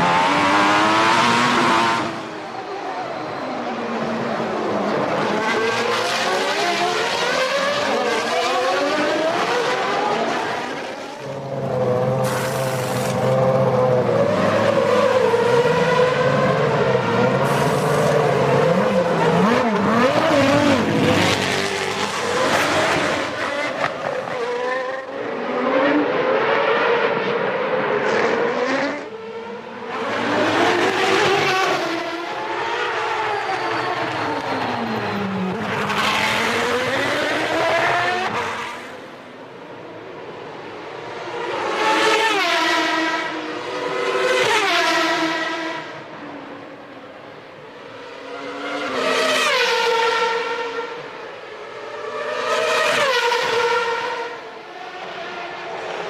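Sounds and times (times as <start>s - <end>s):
racing cars passing: 0.0s - 56.0s.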